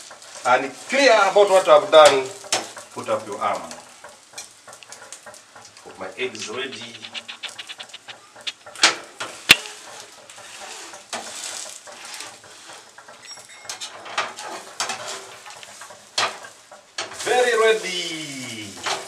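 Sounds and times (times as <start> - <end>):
egg sizzling in a pan: 0.0 - 19.0
metal utensils scraping a pan: 0.0 - 19.0.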